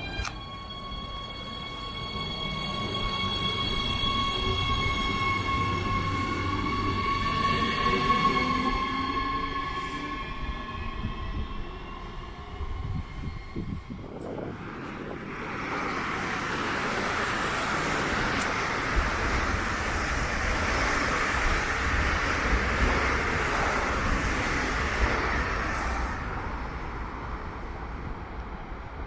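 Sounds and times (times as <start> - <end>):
high train whine: 0.0 - 29.0
train rushing past: 0.0 - 29.0.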